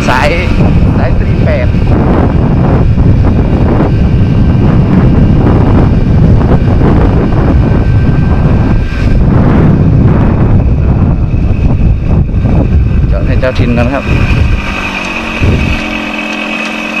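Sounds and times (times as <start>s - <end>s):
motorbike engine running: 0.0s - 17.0s
wind buffeting microphone: 0.0s - 17.0s.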